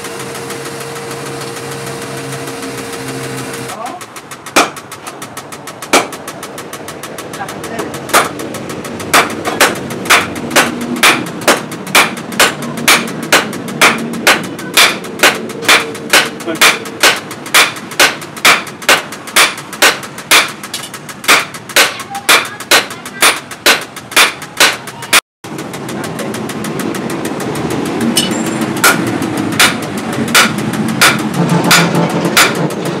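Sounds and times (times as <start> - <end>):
hammers striking steel on anvil: 0.0 - 33.0
steady hum: 0.0 - 33.0.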